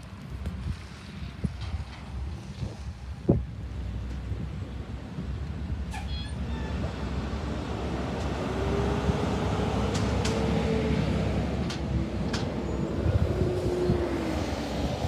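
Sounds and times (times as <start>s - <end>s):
truck engines rumbling: 0.0s - 15.0s.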